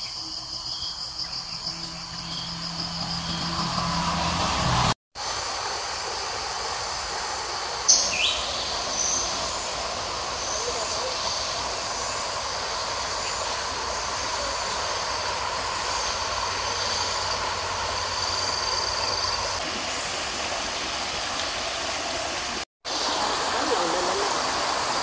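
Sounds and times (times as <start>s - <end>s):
river water rushing over weir: 3.6s - 25.0s.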